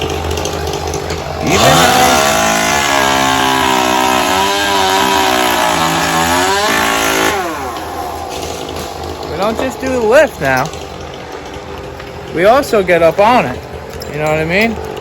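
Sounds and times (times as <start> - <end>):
gas engine revving: 0.0 - 15.0.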